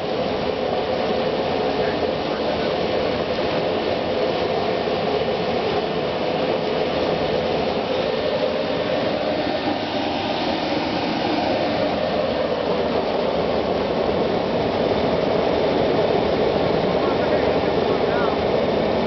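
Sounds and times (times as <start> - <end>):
furnace fire roaring: 0.0 - 19.0.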